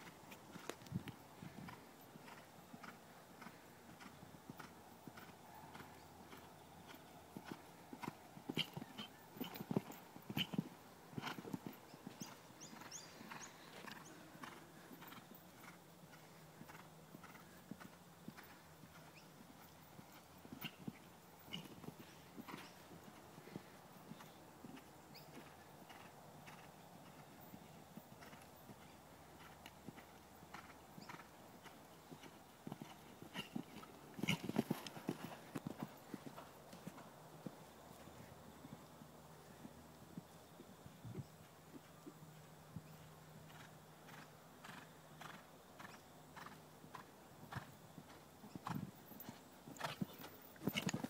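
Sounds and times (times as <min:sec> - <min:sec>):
horse hooves cantering on sand: 0:00.0 - 0:51.0.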